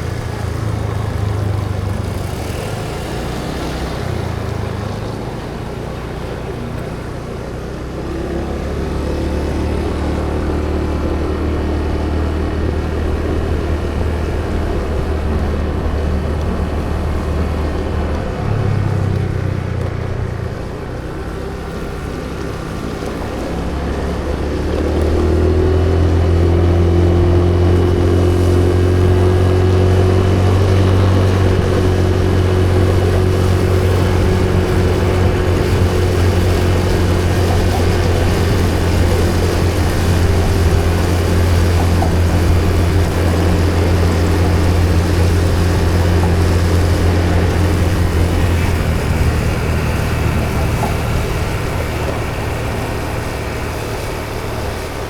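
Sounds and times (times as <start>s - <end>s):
vehicle engine low hum: 0.0s - 55.0s.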